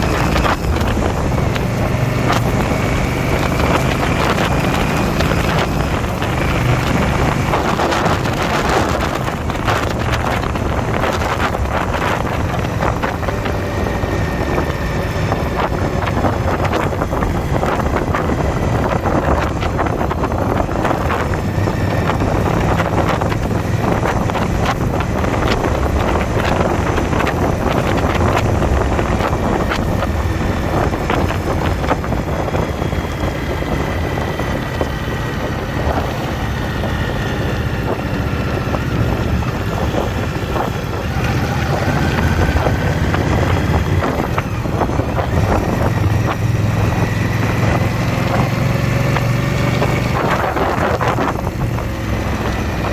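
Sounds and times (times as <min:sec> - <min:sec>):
motorcycle engine running: 0:00.0 - 0:52.9
wind rush on microphone: 0:00.0 - 0:52.9.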